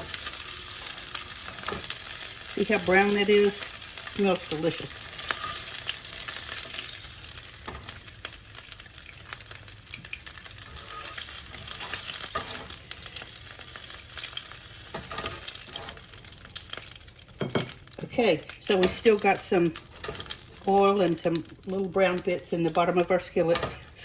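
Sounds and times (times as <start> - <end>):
butter and oil sizzling: 0.0 - 24.0.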